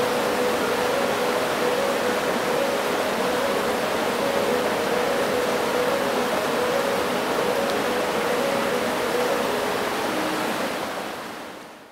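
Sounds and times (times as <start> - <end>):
faint held musical notes: 0.0 - 11.3
rushing river water: 0.0 - 11.9.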